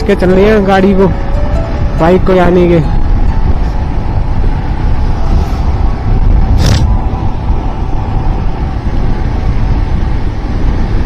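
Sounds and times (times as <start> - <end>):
wind rush and road noise: 0.0 - 11.0.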